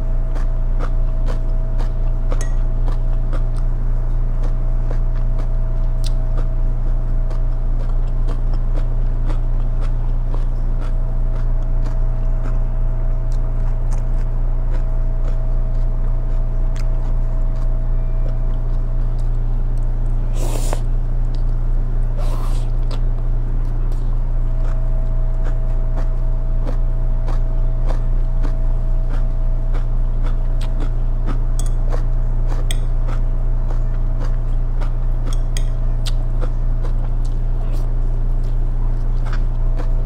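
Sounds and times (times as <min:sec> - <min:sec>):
person chewing crunchy food: 0:00.0 - 0:40.0
steady low hum: 0:00.0 - 0:40.0.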